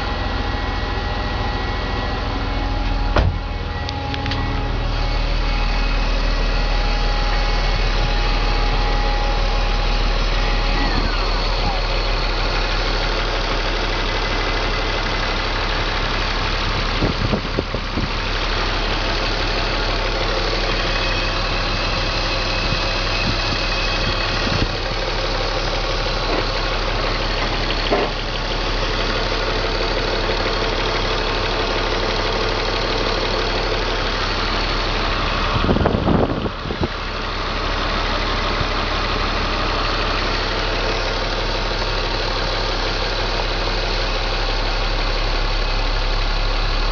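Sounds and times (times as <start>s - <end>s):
car engine idling with stumbles: 0.0s - 46.9s.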